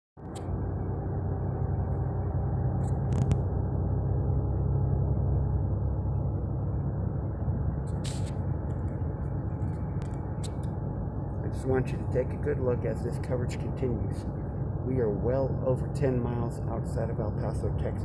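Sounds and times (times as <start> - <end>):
car road and engine rumble: 0.2 - 18.0.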